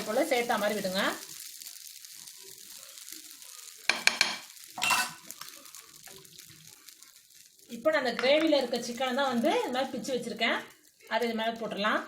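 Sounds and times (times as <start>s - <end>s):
batter sizzling on griddle: 0.0s - 12.0s.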